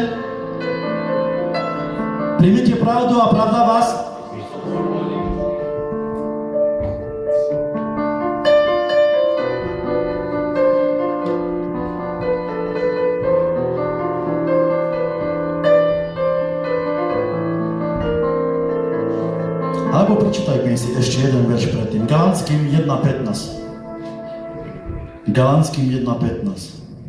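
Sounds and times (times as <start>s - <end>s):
slow piano chords: 0.0s - 26.4s.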